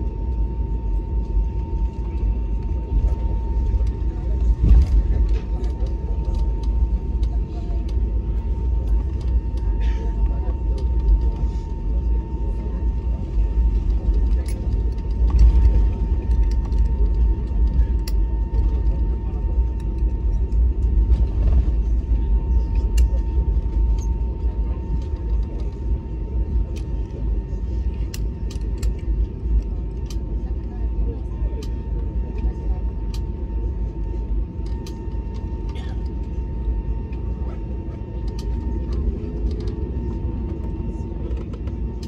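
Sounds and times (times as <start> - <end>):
jet engines idling: 0.0 - 42.0.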